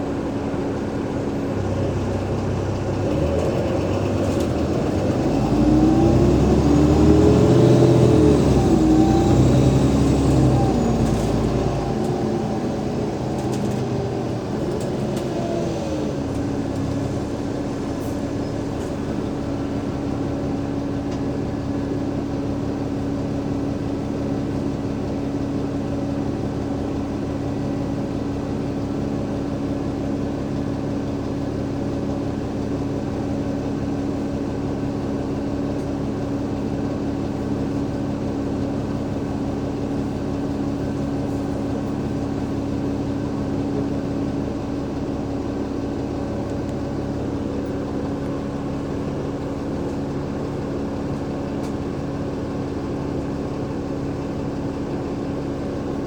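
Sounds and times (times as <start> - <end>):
bus drivetrain humming: 0.0 - 56.0.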